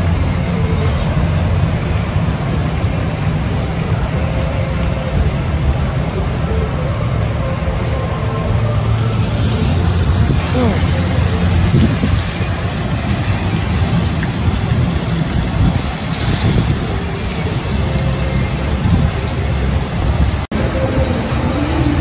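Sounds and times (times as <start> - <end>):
water rushing and splashing: 0.0 - 22.0.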